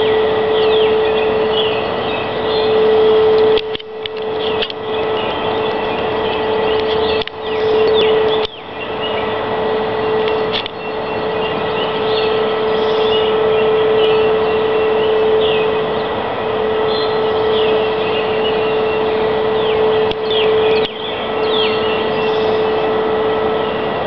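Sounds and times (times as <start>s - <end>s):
birds chirping faintly: 0.0s - 24.0s
loud steady drone: 0.0s - 24.0s.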